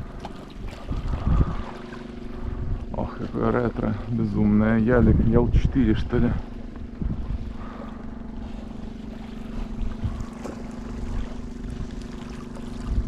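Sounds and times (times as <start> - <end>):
boat motor running: 0.0 - 13.0
sea noise: 0.0 - 13.0
wind: 0.0 - 13.0.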